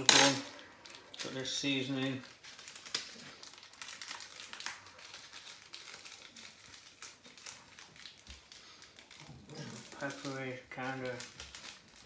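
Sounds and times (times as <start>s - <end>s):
plastic sachet crinkling: 0.5s - 12.0s.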